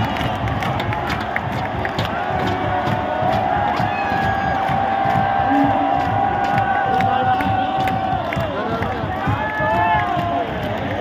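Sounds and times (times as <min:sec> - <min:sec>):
sharp claps or beats: 0:00.0 - 0:11.0
stadium crowd cheering: 0:00.0 - 0:11.0.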